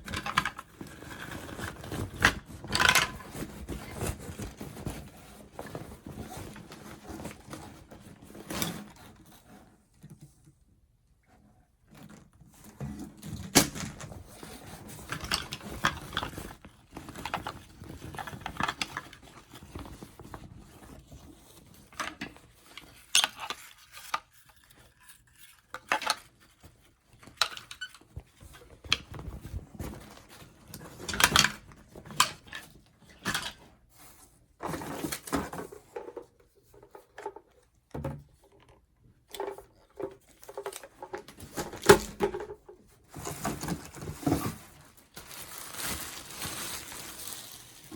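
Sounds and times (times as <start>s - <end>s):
plastic parts clicking and knocking: 0.0s - 8.9s, 11.9s - 33.7s, 34.6s - 44.6s.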